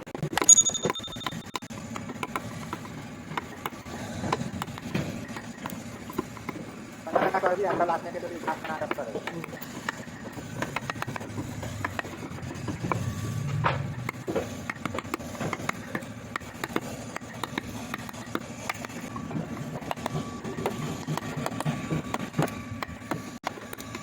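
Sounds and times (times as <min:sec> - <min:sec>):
carving tools tapping on wood: 0:00.2 - 0:13.0, 0:13.6 - 0:24.0.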